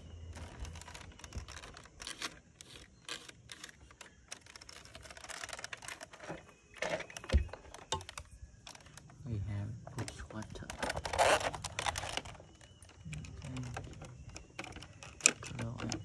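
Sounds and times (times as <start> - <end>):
plastic toy clicks and rattles: 0.0 - 9.3, 10.0 - 16.0.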